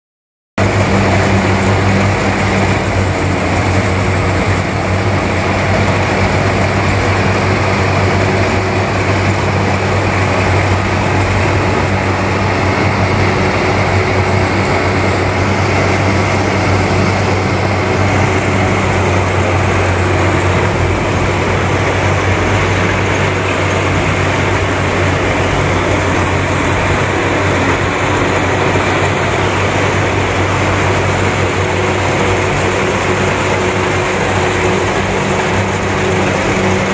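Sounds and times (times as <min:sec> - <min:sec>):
combine harvester engine drone: 0:00.6 - 0:36.9
low machinery hum: 0:00.6 - 0:36.9.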